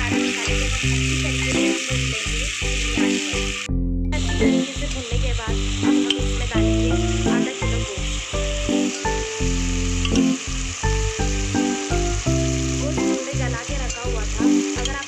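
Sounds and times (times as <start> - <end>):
background music: 0.0 - 15.0
spices sizzling in hot oil: 0.0 - 15.0.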